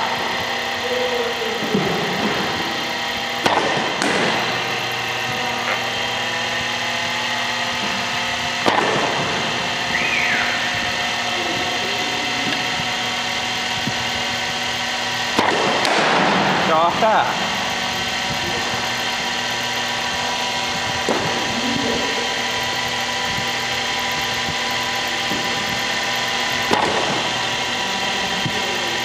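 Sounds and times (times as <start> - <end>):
motor hum: 0.0 - 29.0.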